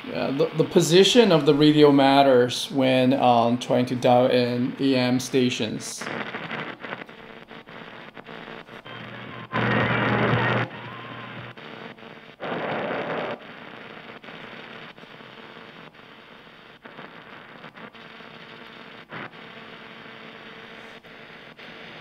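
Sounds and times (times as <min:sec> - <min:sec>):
radio static hissing: 0:00.0 - 0:22.0.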